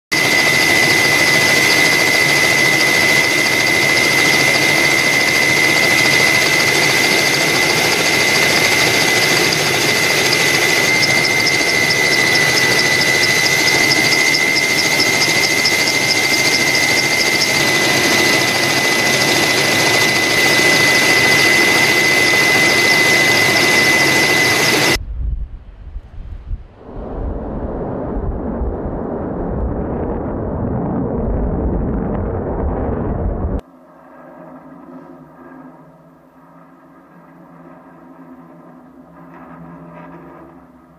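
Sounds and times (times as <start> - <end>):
aircraft engine roar: 0.1 - 40.9
constant high whine: 0.1 - 40.9.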